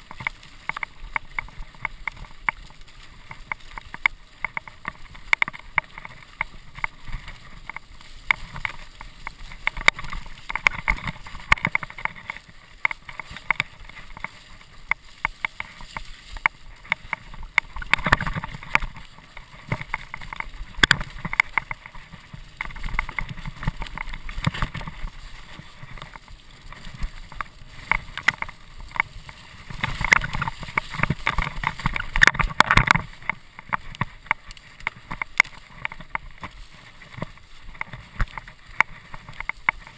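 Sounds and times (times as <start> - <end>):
mountain bike rattling over bumps: 0.0 - 39.9.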